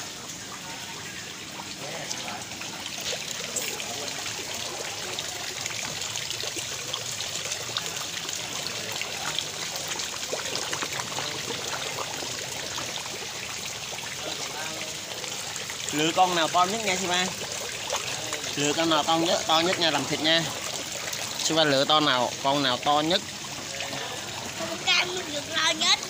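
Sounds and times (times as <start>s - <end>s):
fish splashing in pond: 0.0s - 26.0s.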